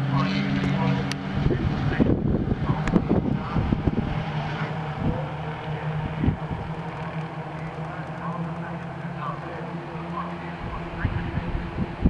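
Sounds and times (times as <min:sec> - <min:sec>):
distant race car engines droning: 0:00.0 - 0:12.0
wind on microphone: 0:00.5 - 0:09.2, 0:10.2 - 0:12.0.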